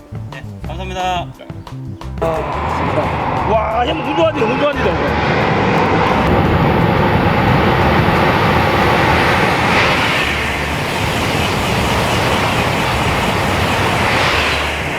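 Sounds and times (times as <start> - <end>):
stream rushing: 2.2 - 14.9.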